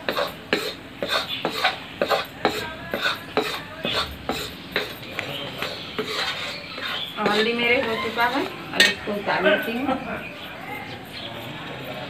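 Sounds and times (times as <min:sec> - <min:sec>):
metal spatula scraping a pan: 0:00.0 - 0:09.8.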